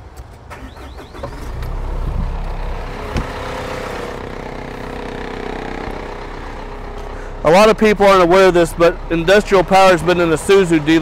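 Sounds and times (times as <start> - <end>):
diesel engine starting and idling: 0.3 - 11.0.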